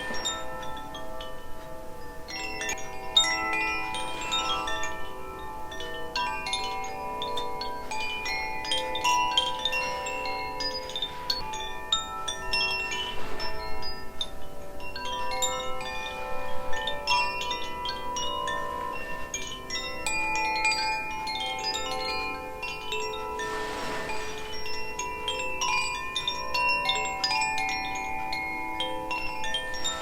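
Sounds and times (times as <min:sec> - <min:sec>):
wind chimes ringing: 0:00.0 - 0:30.0.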